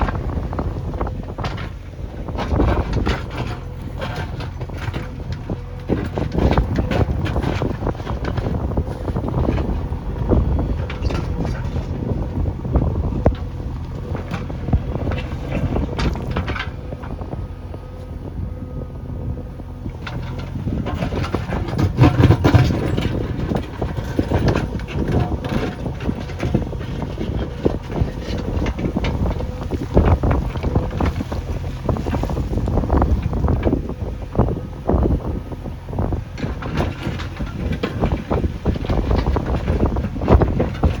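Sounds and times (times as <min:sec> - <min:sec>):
diesel engine running: 0:00.0 - 0:41.0
wind buffeting microphone: 0:00.0 - 0:41.0.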